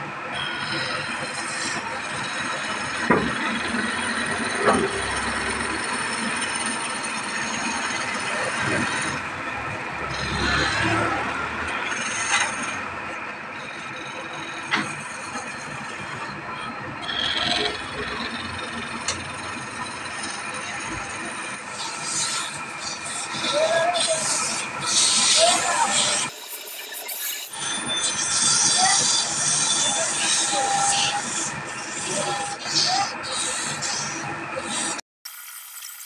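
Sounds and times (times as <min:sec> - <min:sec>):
wood lathe whirring: 0:00.0 - 0:35.0.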